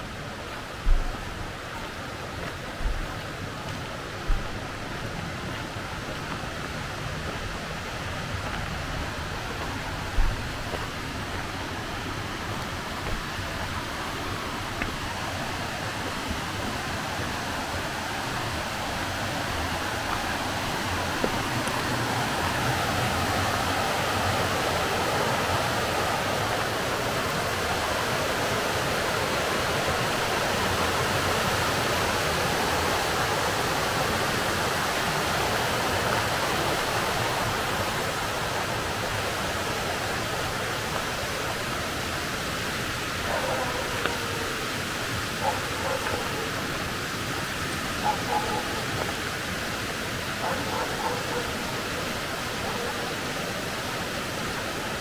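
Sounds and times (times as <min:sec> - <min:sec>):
waterfall and brook rushing: 0:00.0 - 0:55.0.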